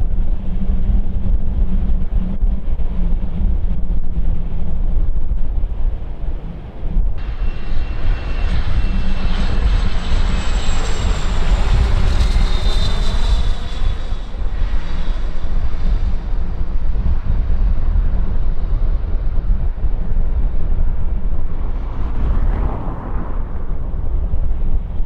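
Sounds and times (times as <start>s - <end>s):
jet engines passing with whine: 0.0s - 25.0s
wind buffeting microphone: 0.0s - 25.0s.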